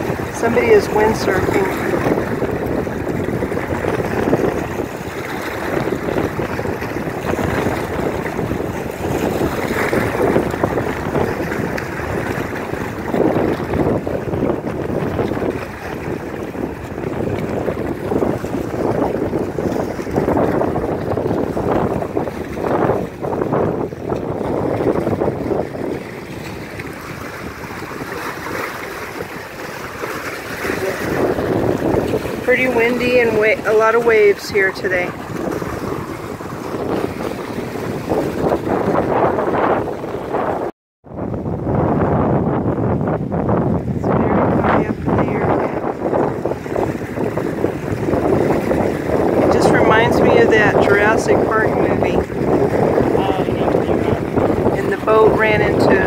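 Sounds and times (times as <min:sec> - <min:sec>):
choppy waves: 0:00.0 - 0:56.0
wind buffeting microphone: 0:00.0 - 0:56.0.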